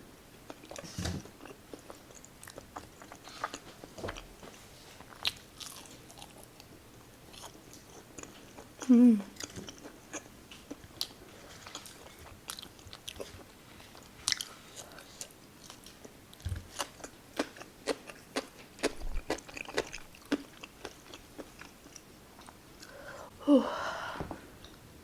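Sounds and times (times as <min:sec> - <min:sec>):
chewing food with crunches: 0:00.4 - 0:22.9.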